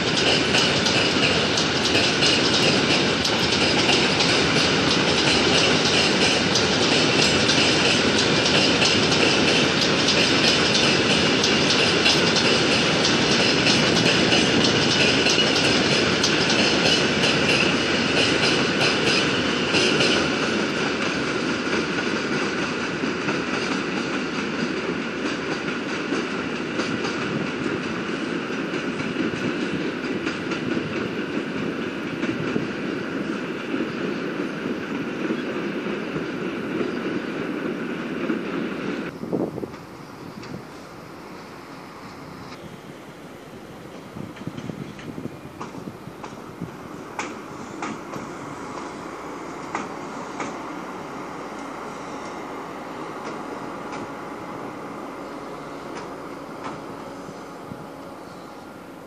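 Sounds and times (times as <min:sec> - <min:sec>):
train rumble: 0:00.0 - 0:59.0.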